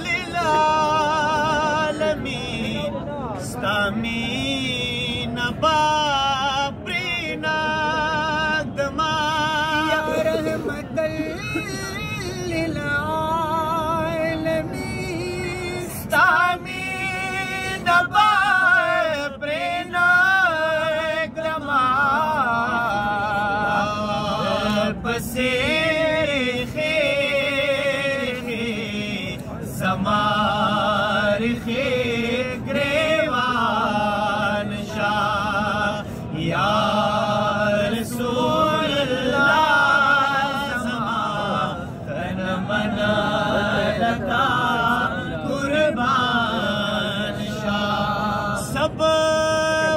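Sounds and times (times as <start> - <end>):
man singing unaccompanied: 0.0 - 49.9.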